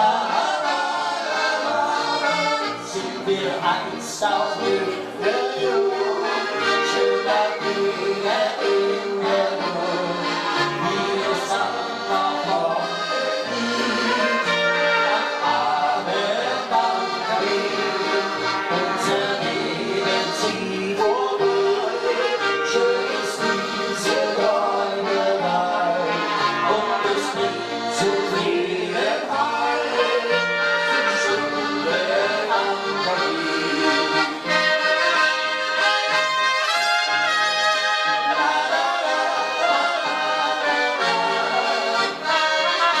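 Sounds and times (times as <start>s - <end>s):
accordion folk-pop music: 0.0s - 43.0s.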